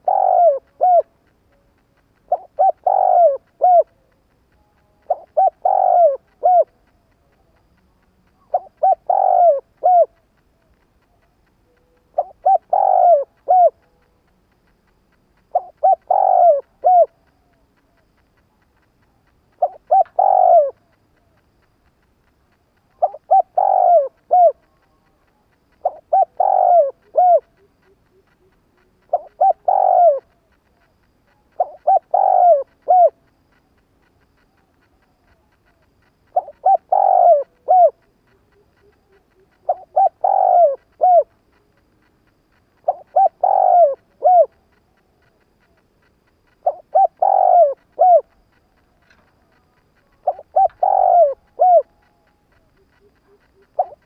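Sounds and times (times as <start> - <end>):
dove cooing: 0.0 - 14.5, 15.2 - 22.0, 22.8 - 54.0.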